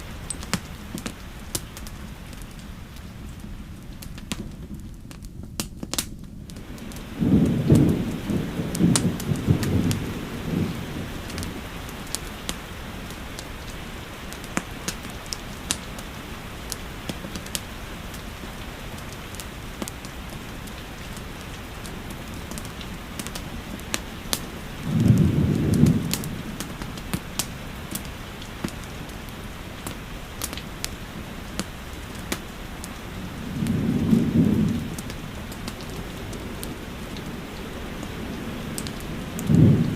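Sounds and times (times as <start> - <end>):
steady rainfall: 0.0 - 39.9
wood fire crackling: 0.0 - 39.9
thunder rumbling: 6.5 - 39.9.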